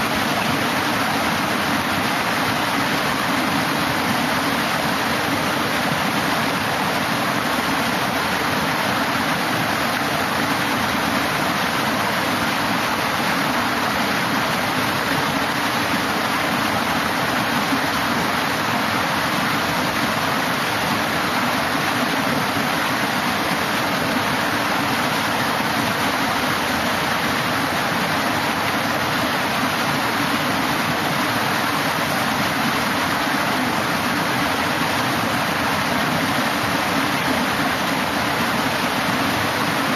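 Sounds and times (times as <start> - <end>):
water rushing down weir steps: 0.0 - 39.9.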